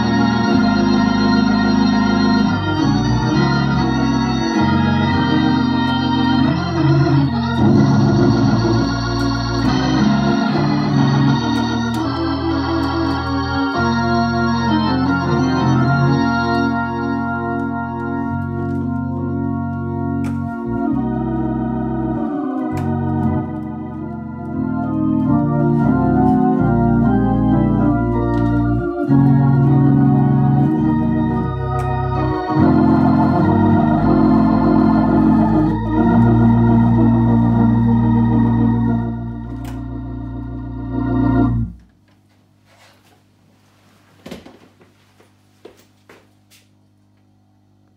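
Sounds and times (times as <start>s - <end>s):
drawbar organ through rotary speaker: 0.0s - 42.3s.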